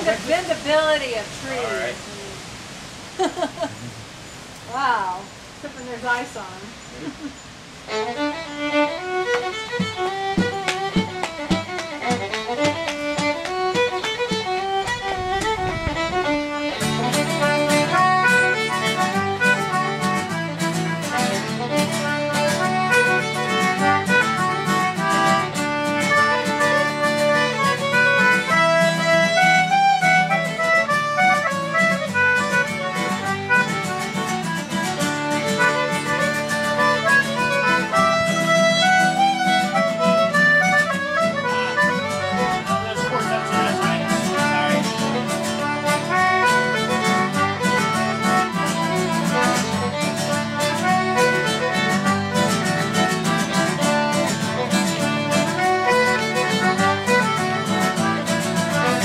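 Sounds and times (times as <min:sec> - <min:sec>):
folk band melody over drone: 0:07.9 - 0:59.0.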